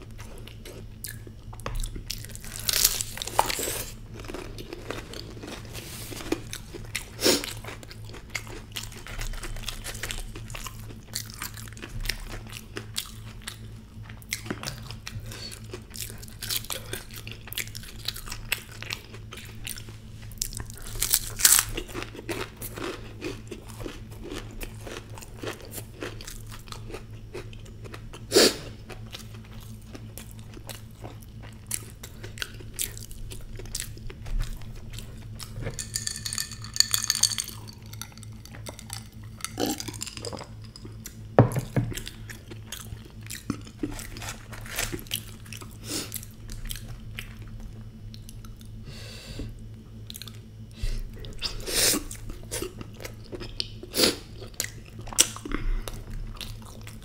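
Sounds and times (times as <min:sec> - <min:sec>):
chewing and lip smacking: 0:00.0 - 0:47.5, 0:50.1 - 0:50.5, 0:51.2 - 0:57.0
steady low hum: 0:00.0 - 0:57.0.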